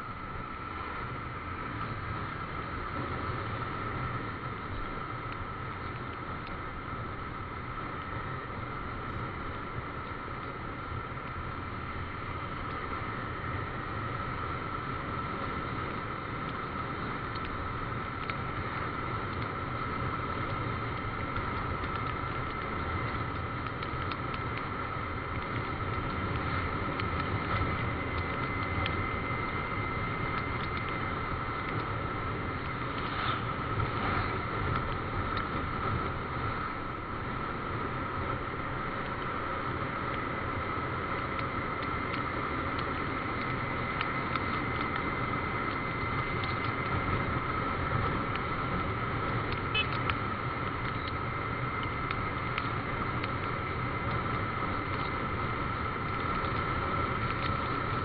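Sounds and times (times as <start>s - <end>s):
high whine: 0.0s - 58.0s
motorcycle engine and wind noise: 0.0s - 58.0s.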